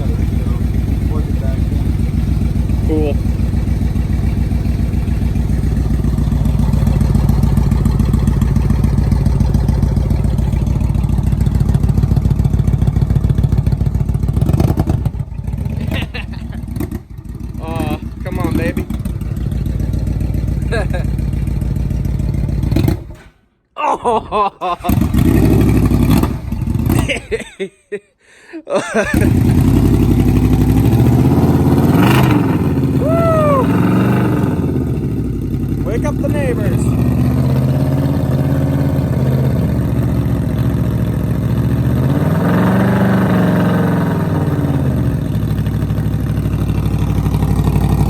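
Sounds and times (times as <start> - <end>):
motorcycle engine idling: 0.0 - 23.2, 24.8 - 27.4, 29.0 - 48.0.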